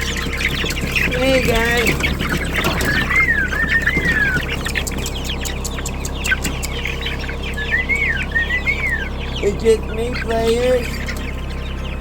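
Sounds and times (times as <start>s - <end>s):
bird whistling phrase: 0.0s - 11.2s
birds clucking and calling: 0.0s - 12.0s
low steady hum: 0.0s - 12.0s.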